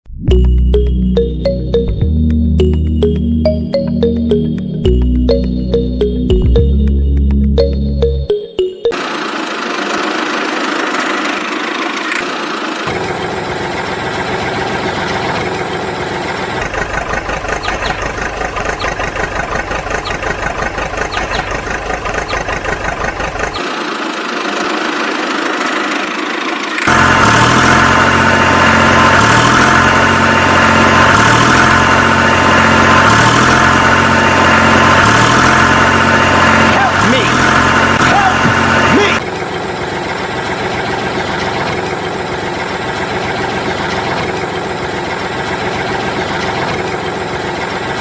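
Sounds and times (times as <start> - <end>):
tractor engine idling: 0.3 - 48.0.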